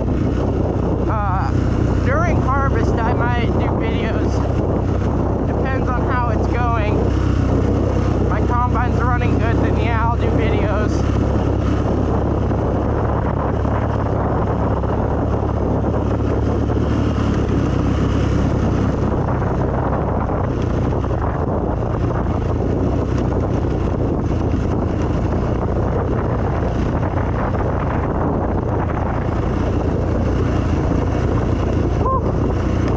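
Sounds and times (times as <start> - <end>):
off-road vehicle engine running: 0.0 - 32.9
wind buffeting microphone: 0.0 - 32.9.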